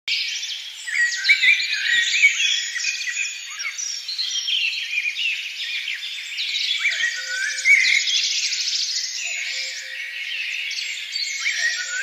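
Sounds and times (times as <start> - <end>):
birds chirping and whistling: 0.2 - 12.0.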